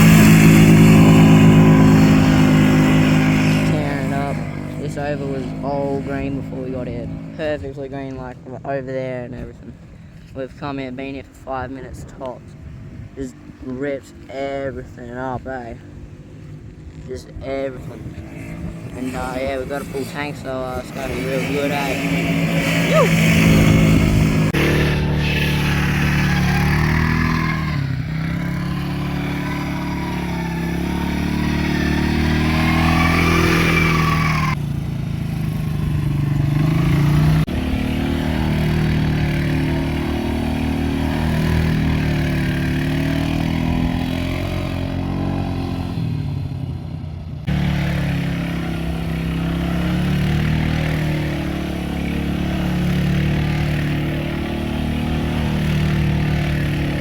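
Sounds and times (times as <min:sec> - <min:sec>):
quad bike engine revving: 0:00.0 - 0:09.7, 0:10.7 - 0:57.0.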